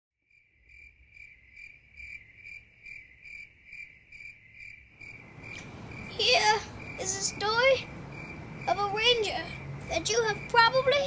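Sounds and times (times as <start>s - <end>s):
cricket chirping: 0.2s - 11.0s.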